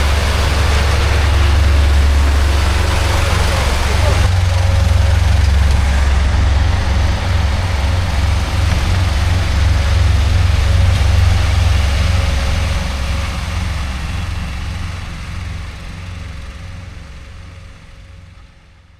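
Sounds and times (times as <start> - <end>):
heavy truck engine rumbling: 0.0 - 18.9.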